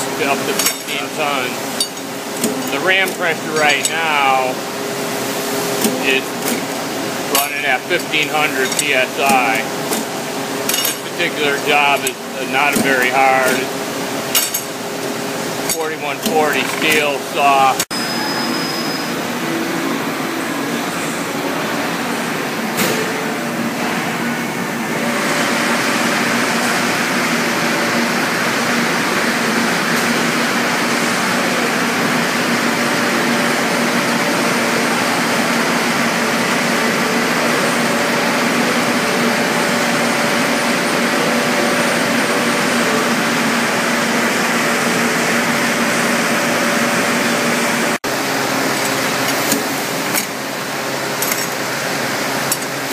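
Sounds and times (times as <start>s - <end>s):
thread rolling machine humming: 0.0s - 52.9s.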